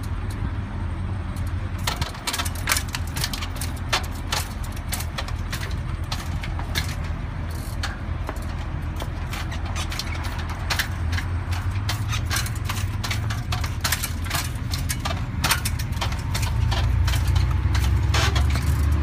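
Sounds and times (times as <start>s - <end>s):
chain and frame rattling: 1.4s - 19.0s
bike clacking on stairs: 1.8s - 19.0s.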